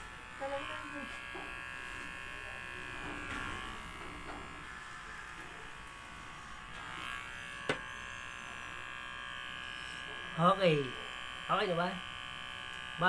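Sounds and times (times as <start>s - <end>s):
electric hair clipper running: 0.0s - 13.0s.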